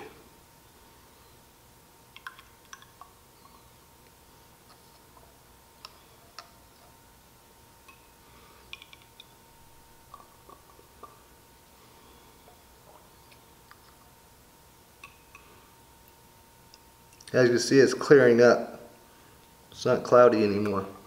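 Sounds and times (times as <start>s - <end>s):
faint steady tone: 0.0s - 21.0s.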